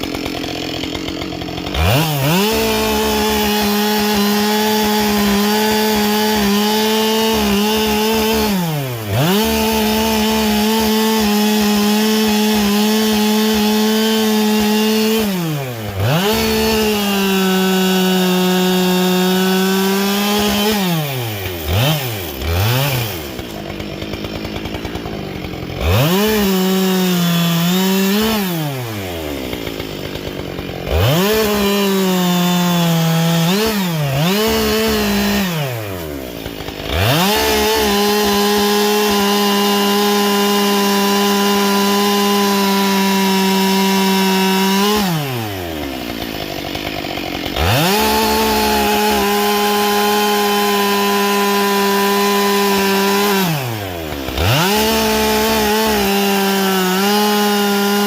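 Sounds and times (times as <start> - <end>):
chainsaw running at full throttle: 0.0 - 58.0.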